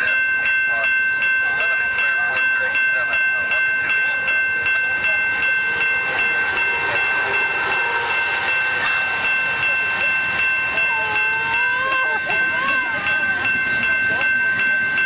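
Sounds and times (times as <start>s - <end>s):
railway bell ringing: 0.0s - 15.0s.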